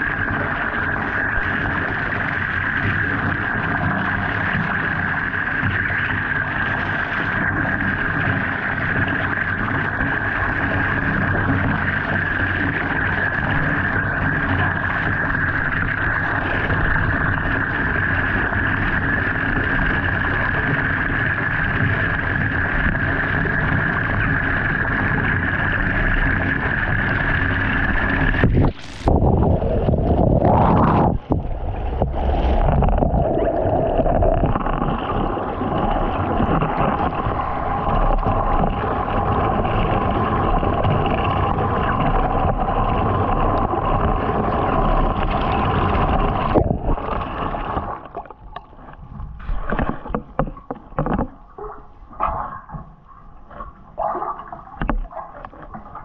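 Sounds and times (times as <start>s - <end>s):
water pouring into bathtub: 0.0s - 50.7s
water sloshing and splashing: 0.0s - 56.0s.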